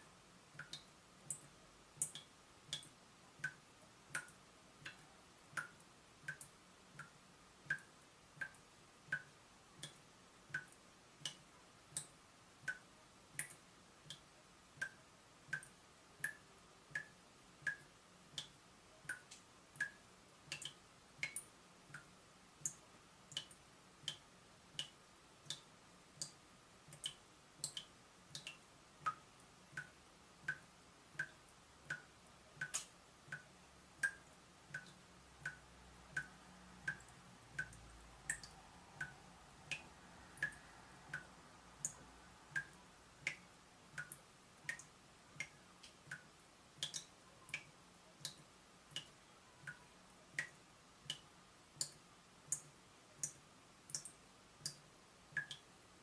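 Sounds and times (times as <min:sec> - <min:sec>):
faint hiss: 0:00.0 - 0:56.0
water dripping from tap: 0:00.5 - 0:55.7.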